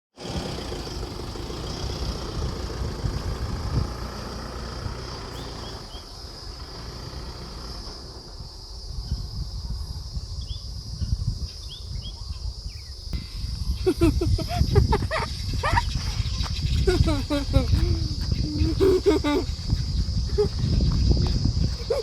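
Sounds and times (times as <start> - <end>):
vehicle engine rumbling: 0.1 - 9.8, 13.1 - 22.0
insects buzzing: 0.2 - 22.0.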